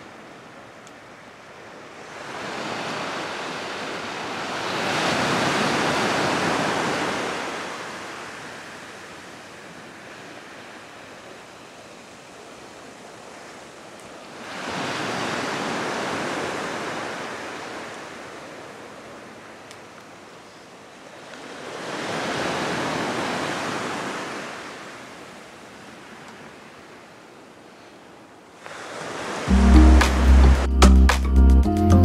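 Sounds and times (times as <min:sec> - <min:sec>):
steady sea wash: 0:00.0 - 0:30.7
waves breaking on shore: 0:00.0 - 0:30.7.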